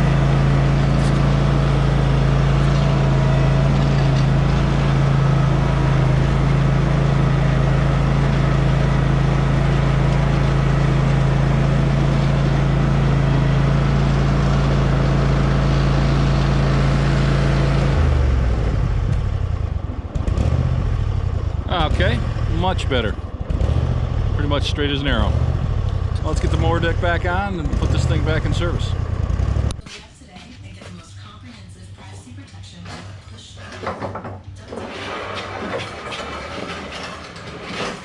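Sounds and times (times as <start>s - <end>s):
mower engine running: 0.0s - 29.8s, 34.7s - 38.0s.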